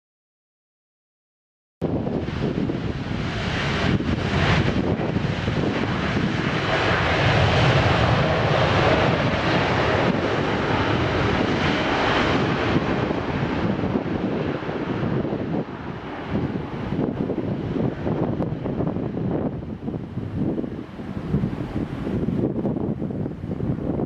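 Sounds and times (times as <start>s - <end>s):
jet engines running: 1.8s - 24.0s.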